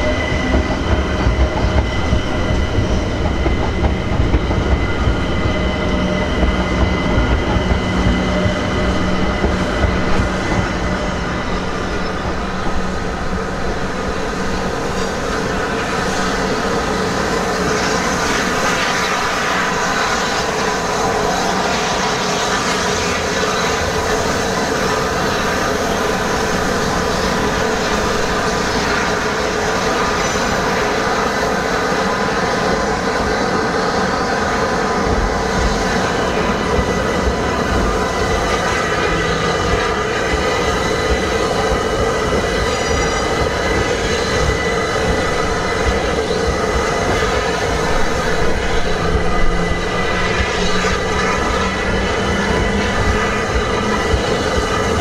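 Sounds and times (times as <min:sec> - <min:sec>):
electric train rumbling: 0:00.0 - 0:55.0
steam locomotive hissing hum: 0:00.0 - 0:55.0
train clanks: 0:00.0 - 0:55.0.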